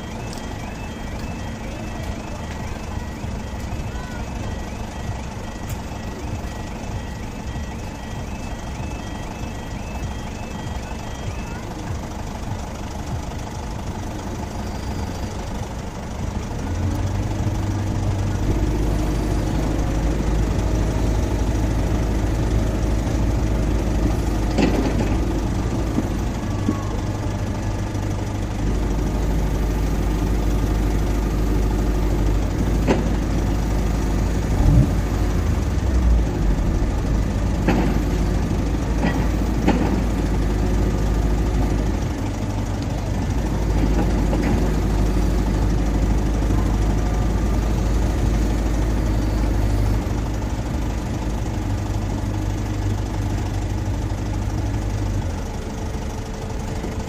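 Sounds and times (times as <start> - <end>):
vehicle engines idling: 0.0 - 57.0.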